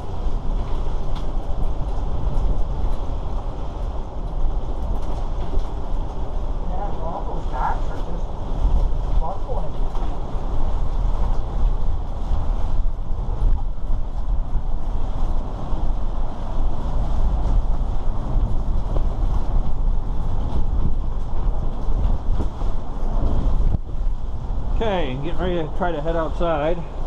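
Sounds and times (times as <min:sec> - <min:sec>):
storm wind buffeting microphone: 0:00.0 - 0:27.0.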